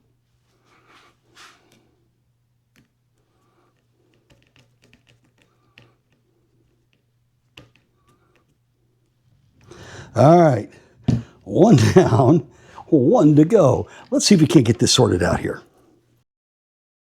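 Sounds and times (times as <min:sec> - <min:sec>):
faint steady hum: 0:00.0 - 0:16.2.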